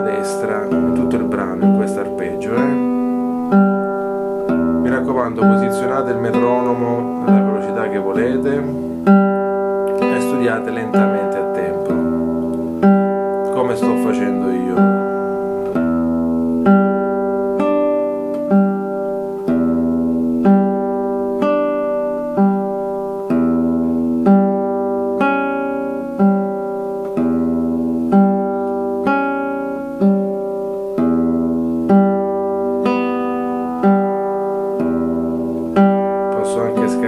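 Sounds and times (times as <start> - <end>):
classical guitar fingerpicking: 0.0 - 37.0.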